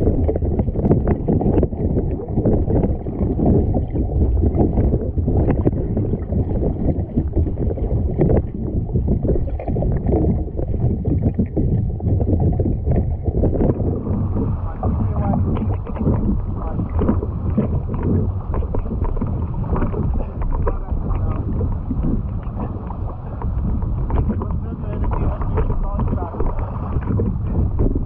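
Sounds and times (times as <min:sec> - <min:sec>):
water splashing against kayak: 0:00.0 - 0:28.0
wind buffeting microphone: 0:00.0 - 0:28.0.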